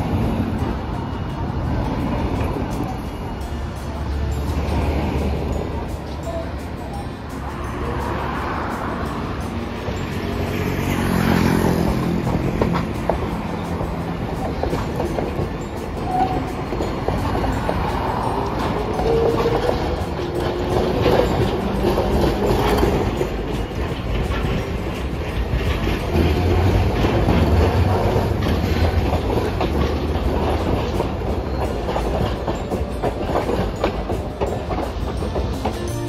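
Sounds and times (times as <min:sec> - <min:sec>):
trams rumbling past: 0:00.0 - 0:36.0.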